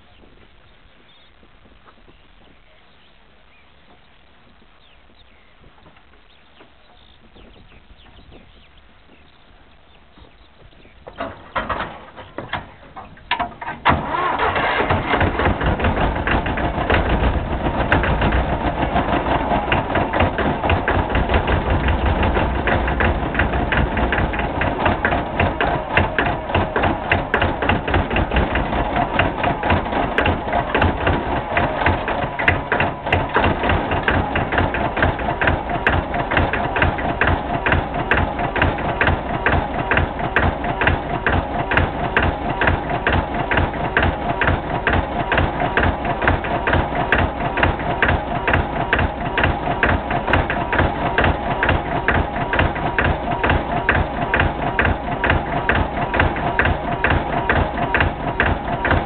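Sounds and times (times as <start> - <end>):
tractor engine cranking and running: 4.8 - 59.0.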